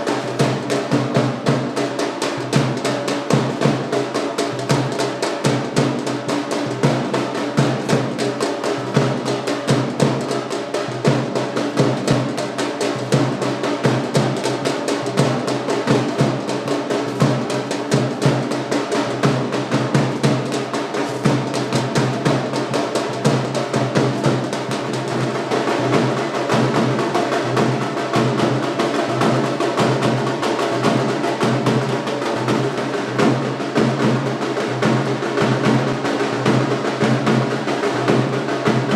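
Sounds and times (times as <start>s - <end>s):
fast dense drumming: 0.0s - 38.9s.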